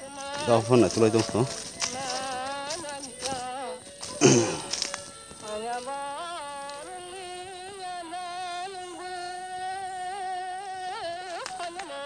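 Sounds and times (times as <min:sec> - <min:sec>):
person singing a long note: 0:00.0 - 0:12.0.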